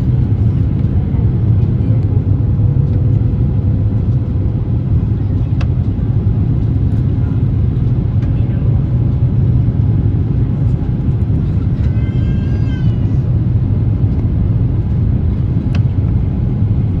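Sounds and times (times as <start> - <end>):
jet airliner cabin rumble: 0.0 - 17.0.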